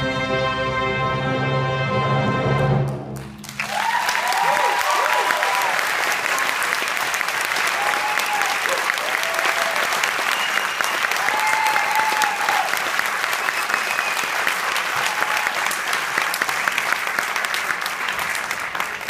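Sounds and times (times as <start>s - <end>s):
audience applauding: 3.2s - 19.0s.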